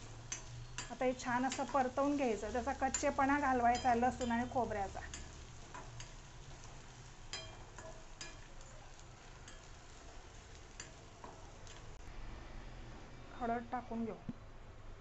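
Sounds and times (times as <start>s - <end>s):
faint oil sizzle: 0.0s - 13.1s.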